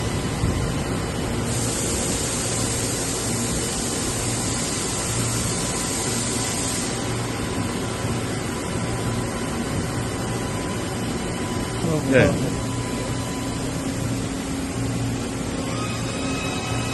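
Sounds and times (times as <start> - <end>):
machining centre humming: 0.0 - 16.9.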